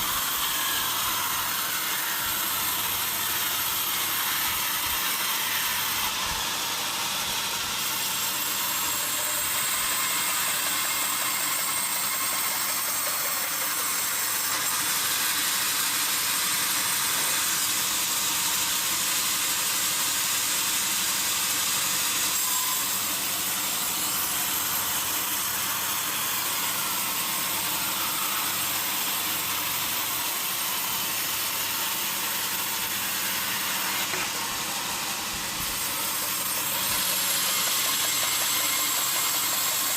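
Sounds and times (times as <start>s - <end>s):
sawmill saw high hiss: 0.0s - 39.9s.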